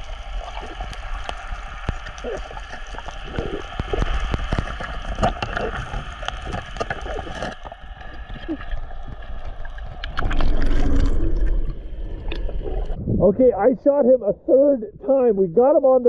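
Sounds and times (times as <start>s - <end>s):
muffled underwater hiss: 0.0s - 13.0s
rush of water: 0.0s - 13.0s
sharp underwater clicks and crackles: 0.0s - 13.0s.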